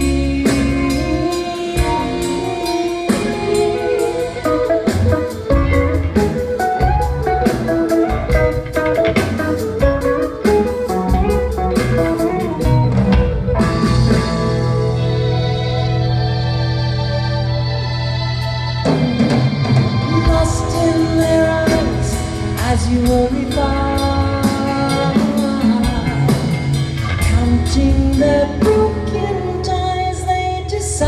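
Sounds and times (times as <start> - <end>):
drum kit: 0.0 - 16.5, 18.4 - 30.1
bass guitar: 0.0 - 31.0
electric guitar: 0.0 - 31.0
live rock band playing: 0.0 - 31.0.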